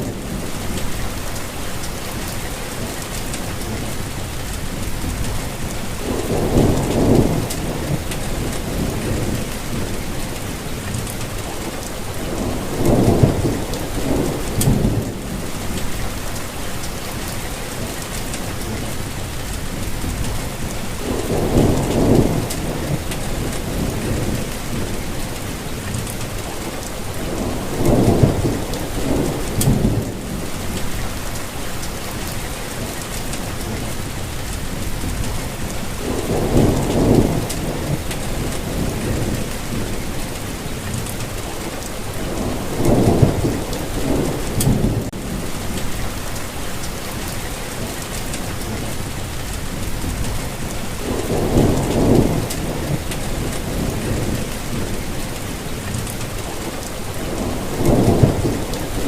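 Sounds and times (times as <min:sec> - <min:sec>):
rainfall: 0:00.0 - 0:59.0.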